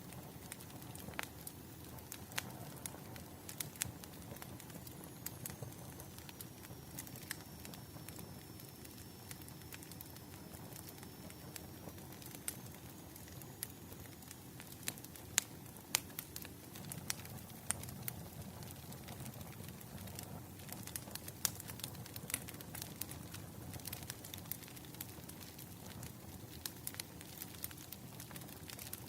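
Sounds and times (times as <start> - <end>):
low burning rumble: 0.0 - 29.0
wood fire crackling and popping: 0.0 - 29.0.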